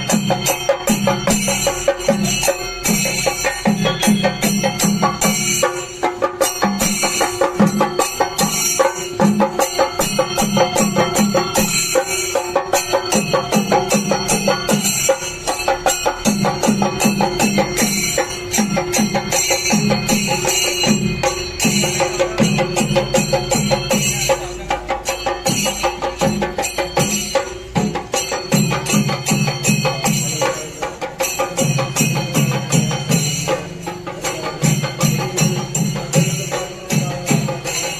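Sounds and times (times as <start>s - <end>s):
fast percussion beats: 0.0s - 37.9s
loud festival music: 0.0s - 37.9s.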